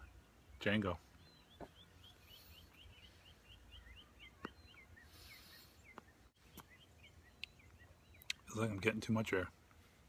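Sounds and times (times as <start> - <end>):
bird chirping rapidly: 0.0 - 8.8.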